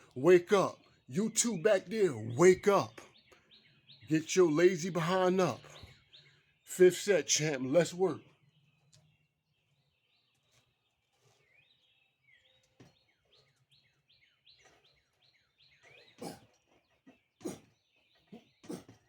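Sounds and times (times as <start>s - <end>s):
faint bird song: 0.0s - 19.0s.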